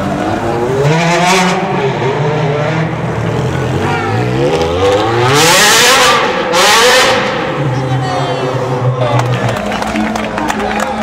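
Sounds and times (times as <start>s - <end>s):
car engine revving in tunnel: 0.0s - 10.7s.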